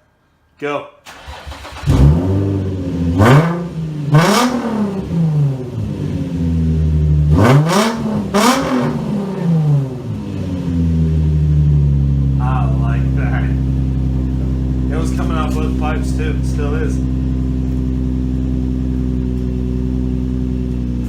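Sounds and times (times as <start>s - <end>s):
car engine idling and revving: 1.1s - 21.0s.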